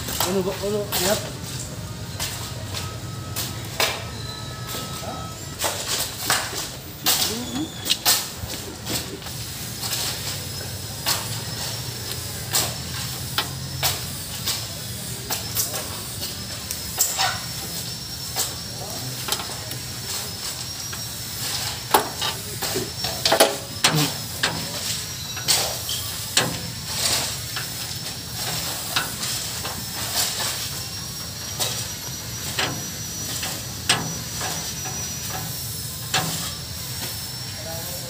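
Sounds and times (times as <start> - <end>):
faint high whine: 0.0 - 38.0.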